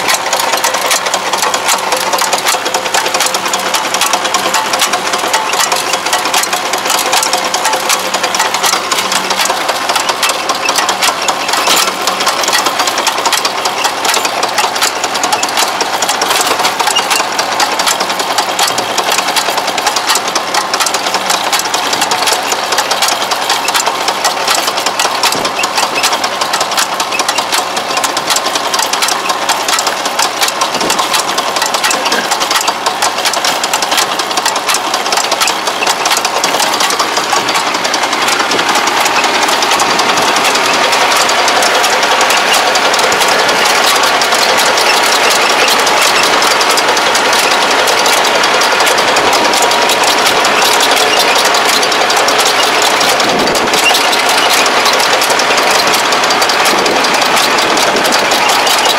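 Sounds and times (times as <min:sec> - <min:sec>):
fast mechanical clatter of tines: 0:00.0 - 0:58.9
tractor engine running under load: 0:00.0 - 0:58.9.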